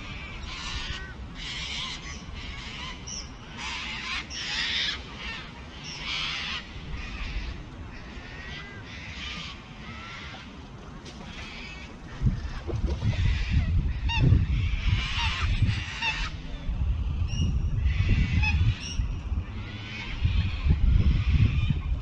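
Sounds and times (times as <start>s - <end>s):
birds squawking: 0.0s - 10.6s, 11.2s - 16.5s, 17.2s - 22.0s
wind rumble on microphone: 0.0s - 22.0s.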